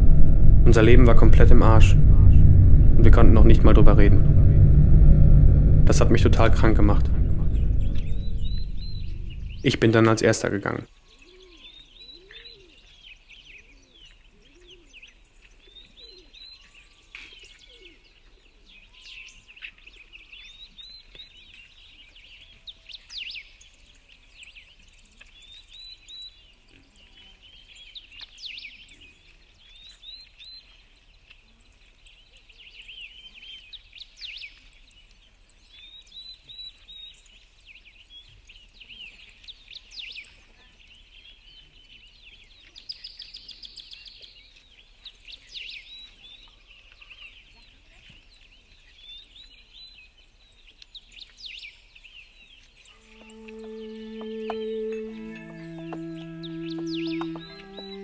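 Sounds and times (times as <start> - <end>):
songbirds chirping and trilling: 7.5 - 58.0.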